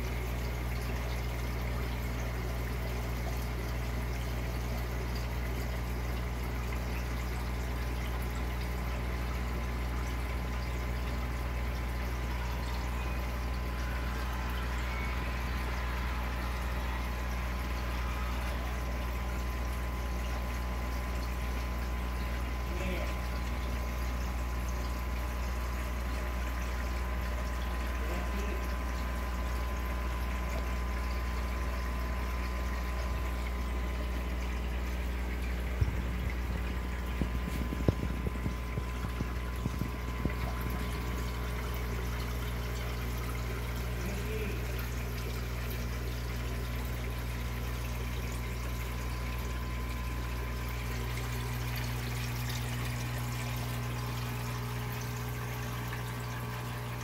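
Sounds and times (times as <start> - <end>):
filter pump hum: 0.0 - 57.0
water splashing and trickling: 0.0 - 57.0.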